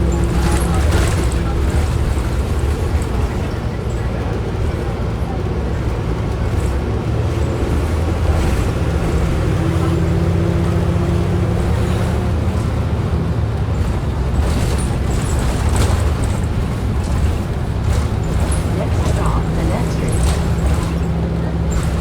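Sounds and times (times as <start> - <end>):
bus drivetrain and road noise: 0.0 - 22.0.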